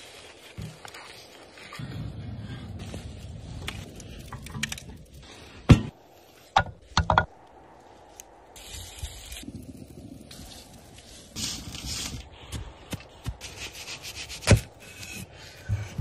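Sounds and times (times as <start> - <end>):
low rustling rumble: 1.8 - 6.2, 6.8 - 16.0.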